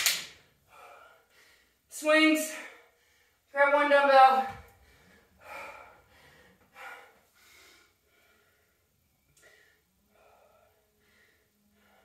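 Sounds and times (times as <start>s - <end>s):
woman breathing heavily: 0.5s - 1.9s, 2.5s - 3.5s, 4.6s - 12.0s.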